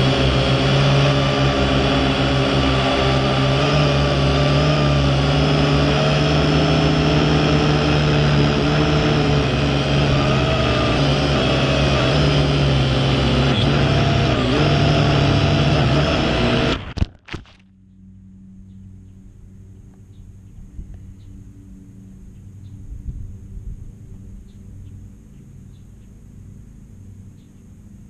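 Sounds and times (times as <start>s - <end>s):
drone motors whining: 0.0s - 22.5s.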